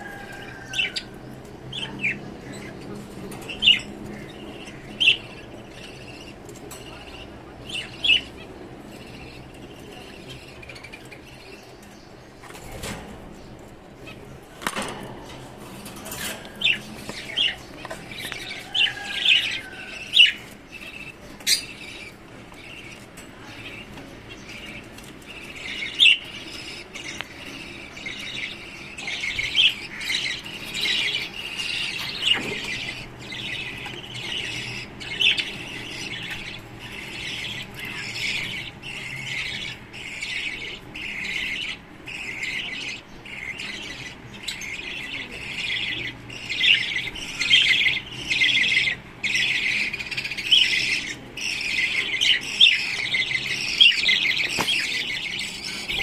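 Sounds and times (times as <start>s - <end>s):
caged birds squawking and chirping: 0.0s - 56.0s.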